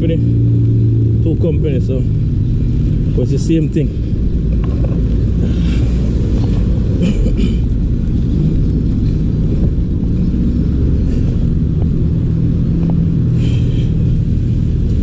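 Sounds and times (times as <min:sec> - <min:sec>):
faint engine drone: 0:00.0 - 0:15.0
motor vehicle rumble: 0:00.0 - 0:15.0
road and wind noise: 0:00.0 - 0:15.0.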